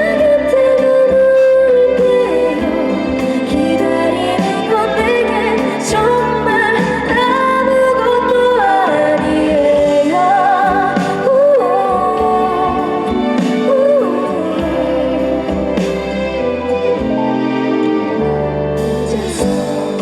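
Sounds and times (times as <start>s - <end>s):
woman singing with vibrato: 0.0s - 17.2s, 18.1s - 20.0s
band accompaniment: 0.0s - 20.0s.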